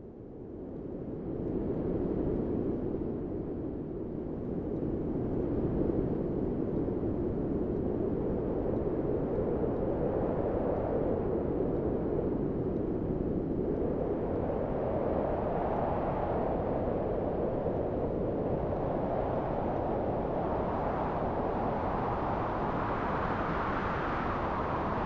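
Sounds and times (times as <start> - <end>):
strong wind blowing: 4.6 - 25.0.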